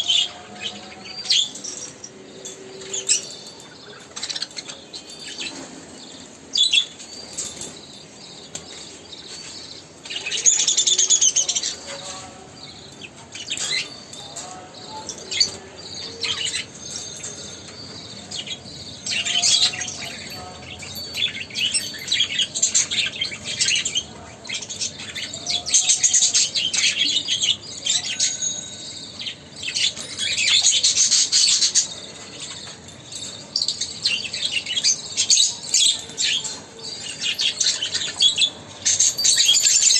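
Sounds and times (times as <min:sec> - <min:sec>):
pet birds chirping: 0:00.0 - 0:39.9.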